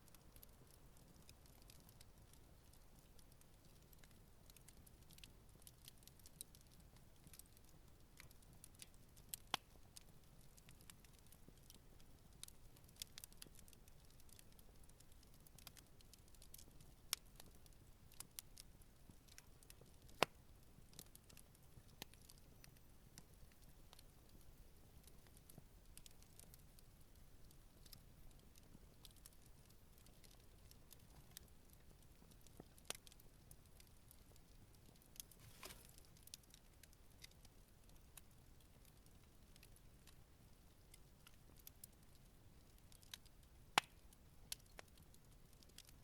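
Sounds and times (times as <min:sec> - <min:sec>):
campfire crackling softly: 0:00.0 - 0:46.0.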